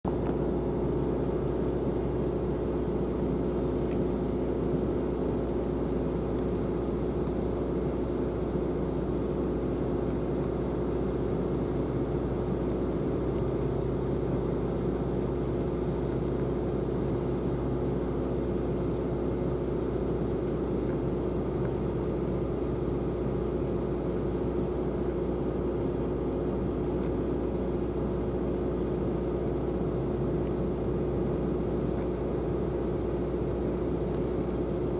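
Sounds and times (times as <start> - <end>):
machinery rumbling and humming: 0.1 - 34.9.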